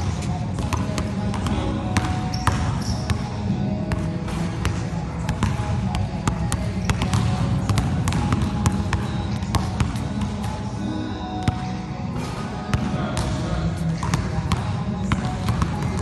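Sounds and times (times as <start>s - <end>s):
basketballs bouncing on wooden floor: 0.0s - 10.8s, 11.4s - 16.0s.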